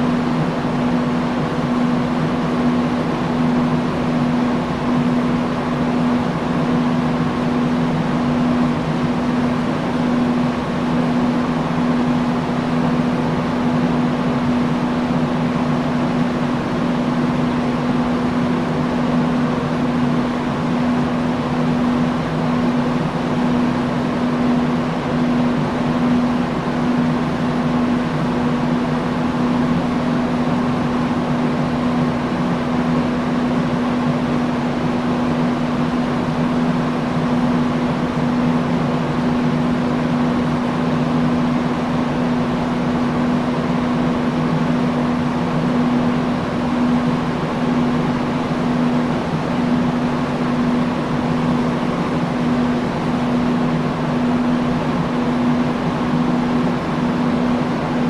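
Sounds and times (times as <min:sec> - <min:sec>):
industrial fan running: 0:00.0 - 0:58.0.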